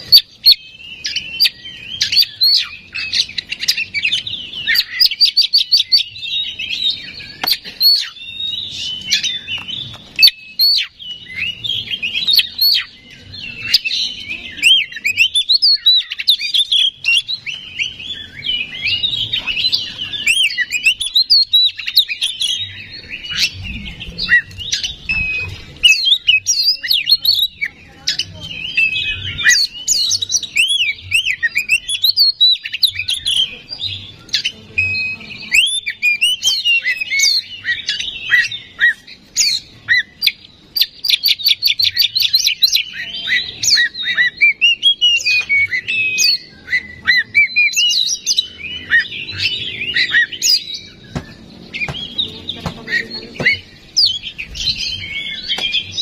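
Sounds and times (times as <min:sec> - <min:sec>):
bird singing whistled phrases: 0:00.0 - 0:56.0.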